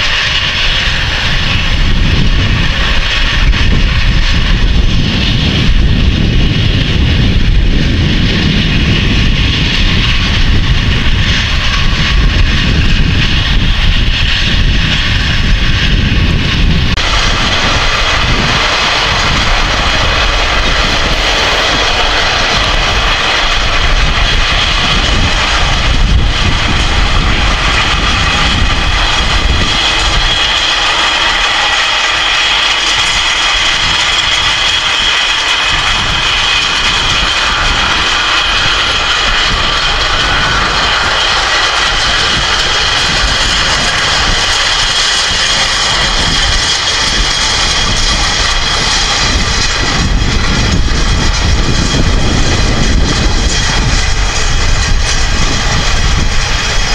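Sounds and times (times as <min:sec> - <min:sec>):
high whine: 0:00.0 - 0:56.9
tractor diesel engine running: 0:00.0 - 0:56.9.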